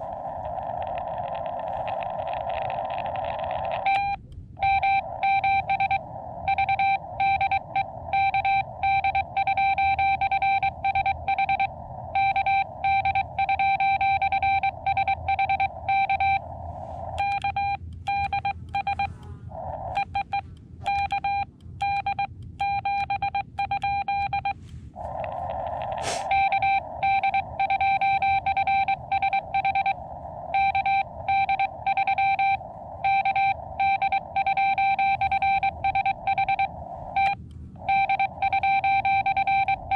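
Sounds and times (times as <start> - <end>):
morse code beeps: 0.0 - 19.2, 19.8 - 39.9
receiver hiss: 0.0 - 22.6, 23.2 - 39.9.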